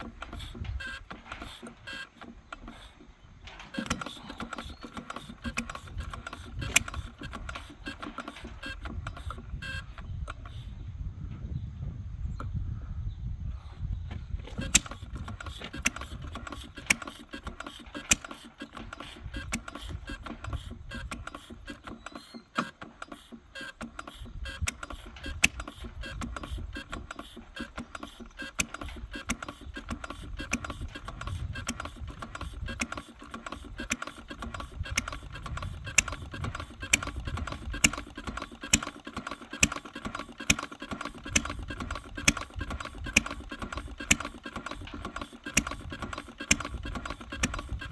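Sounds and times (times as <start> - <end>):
engine firing pops: 0.0 - 10.6, 14.1 - 47.9
old engine rumbling and clattering: 0.0 - 10.8, 14.1 - 47.9.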